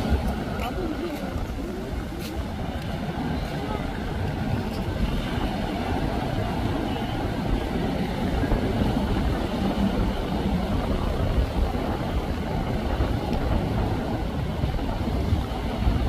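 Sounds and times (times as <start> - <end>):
boat engines rumbling: 0.0 - 16.0
rush of boat wake: 0.0 - 16.0.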